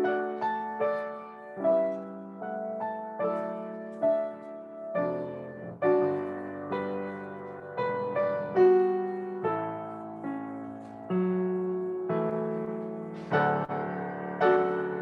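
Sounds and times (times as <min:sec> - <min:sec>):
slow solo piano melody: 0:00.0 - 0:15.0.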